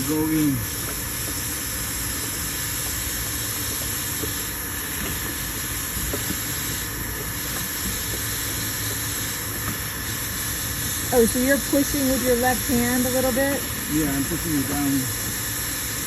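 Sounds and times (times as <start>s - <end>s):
heat gun blowing with whine: 0.0s - 16.0s.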